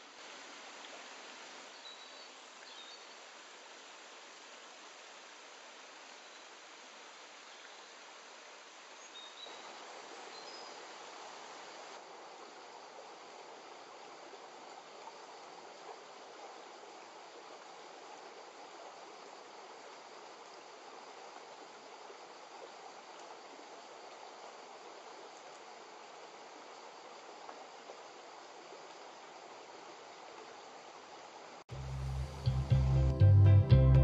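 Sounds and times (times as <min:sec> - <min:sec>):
stream flowing over stones: 0:00.0 - 0:33.0.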